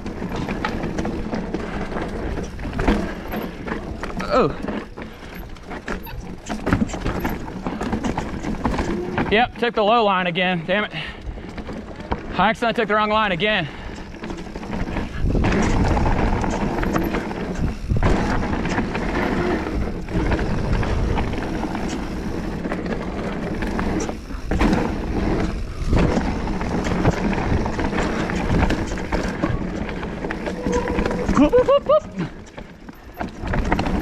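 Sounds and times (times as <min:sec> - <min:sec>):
bike knocks and rattles: 0:00.0 - 0:34.0
bike tyres rolling and skidding: 0:00.0 - 0:34.0.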